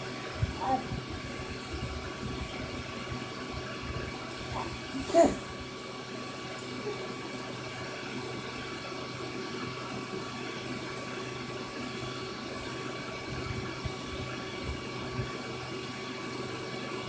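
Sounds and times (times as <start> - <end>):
aquarium filter water circulating: 0.0 - 17.0.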